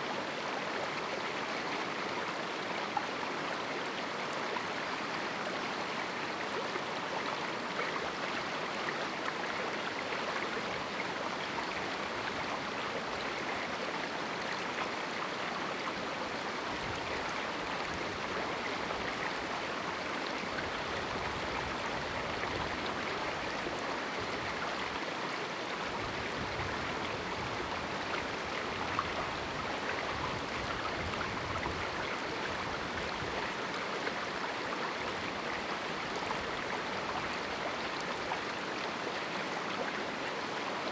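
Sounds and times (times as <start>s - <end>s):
river babbling over rocks: 0.0s - 40.9s.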